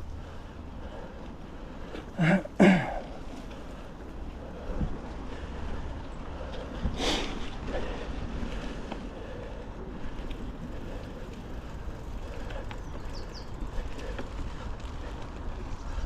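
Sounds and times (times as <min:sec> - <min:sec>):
bike rattles and clicks: 0:00.0 - 0:16.0
bike tyres rolling on mud: 0:00.0 - 0:16.0.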